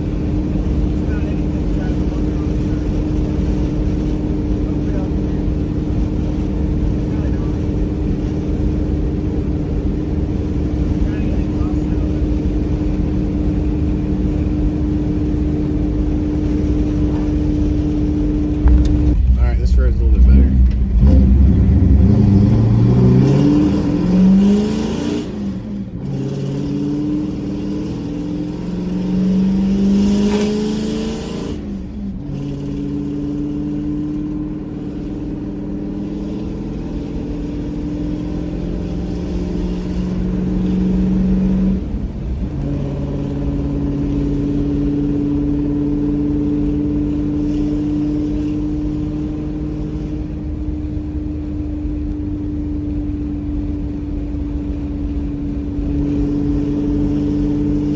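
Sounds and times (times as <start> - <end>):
truck engine revving through gears: 0.0 - 57.9.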